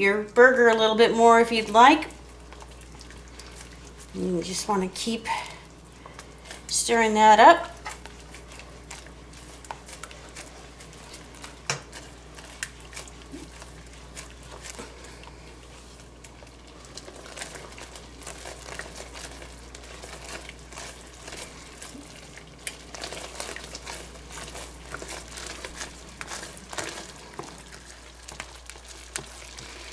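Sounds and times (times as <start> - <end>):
whisk clicking and scraping pan: 1.5 - 29.9.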